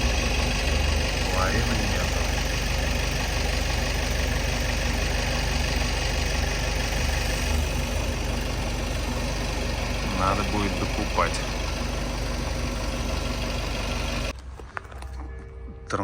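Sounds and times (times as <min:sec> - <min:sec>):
diesel van engine idling: 0:00.0 - 0:14.4.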